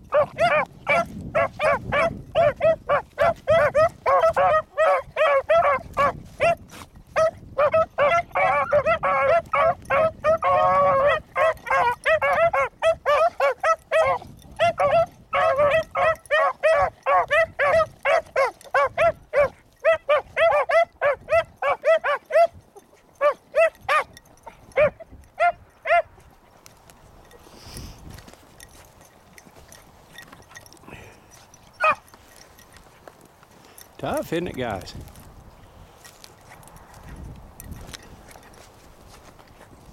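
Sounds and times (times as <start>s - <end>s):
dogs yelping barks: 0.0s - 27.4s, 28.3s - 33.9s
beagles baying: 0.0s - 27.5s, 28.3s - 34.8s.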